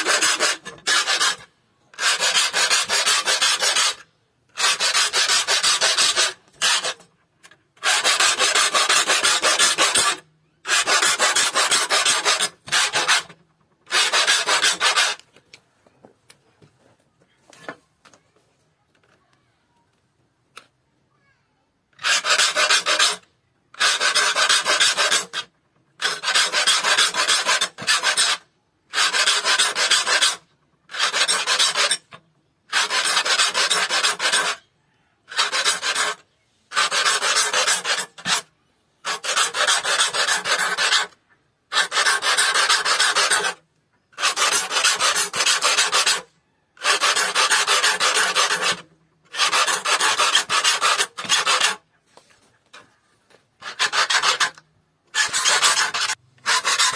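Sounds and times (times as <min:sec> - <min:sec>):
hand file rasping on saw teeth: 0:00.0 - 0:07.1, 0:07.8 - 0:15.2, 0:22.0 - 0:34.7, 0:35.3 - 0:43.6, 0:44.2 - 0:51.8, 0:53.6 - 0:56.9.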